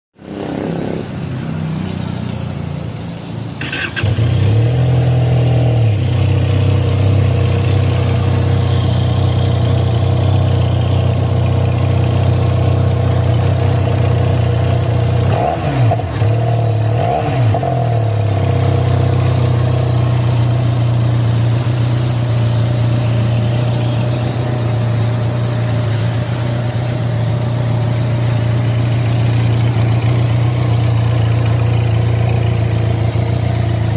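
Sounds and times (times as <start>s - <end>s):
motorcycle engine idling: 0.2s - 17.0s, 17.7s - 33.9s
motorcycle throttle blips: 3.6s - 33.9s.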